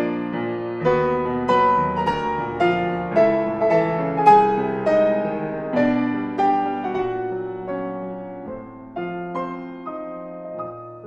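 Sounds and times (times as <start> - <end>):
slow solo piano melody: 0.0 - 11.0.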